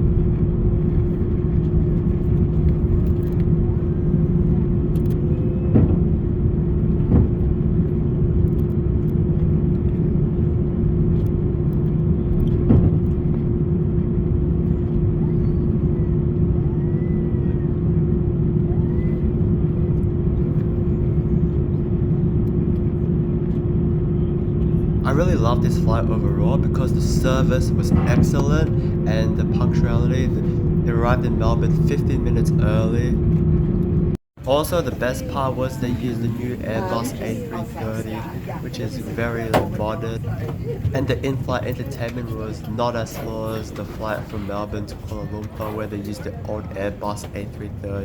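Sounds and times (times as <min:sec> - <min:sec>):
airliner engines idling: 0:00.0 - 0:48.0.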